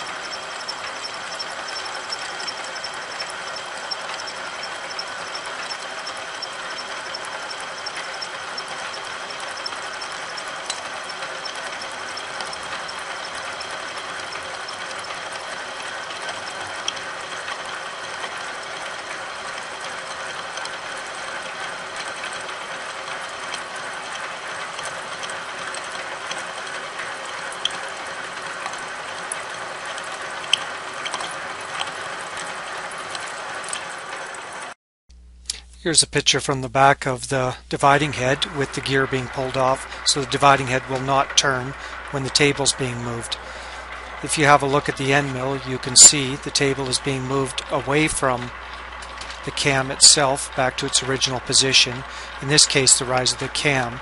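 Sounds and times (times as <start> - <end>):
sharp ticks: 0.0 - 34.4, 37.8 - 54.0
milling machine whirring: 0.0 - 34.7, 37.7 - 54.0.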